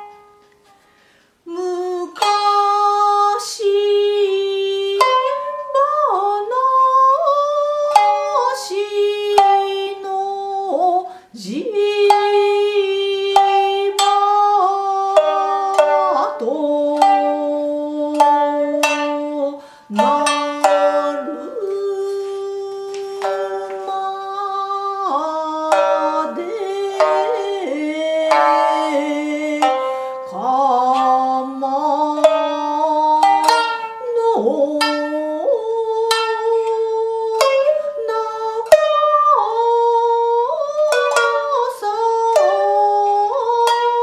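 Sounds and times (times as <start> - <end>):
shamisen plucks: 0.0 - 1.0, 1.7 - 44.0
woman singing long notes: 1.4 - 44.0.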